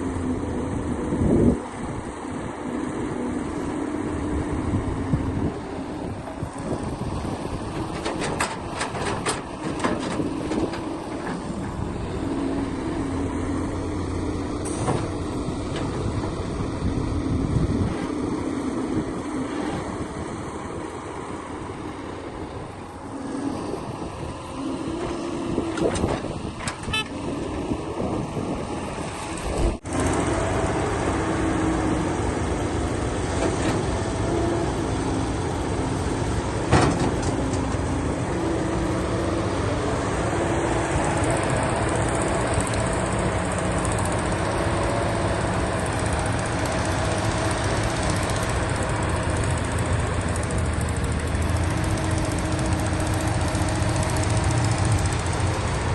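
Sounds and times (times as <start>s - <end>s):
heavy machine engine running: 0.0s - 55.9s.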